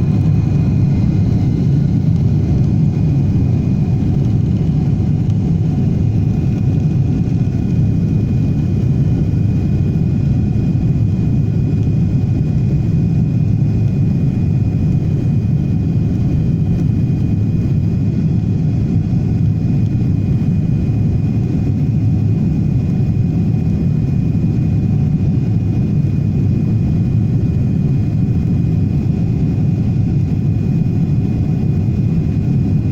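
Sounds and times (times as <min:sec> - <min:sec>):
jet engine high whine: 0:00.0 - 0:32.9
jet engines low rumble: 0:00.0 - 0:32.9.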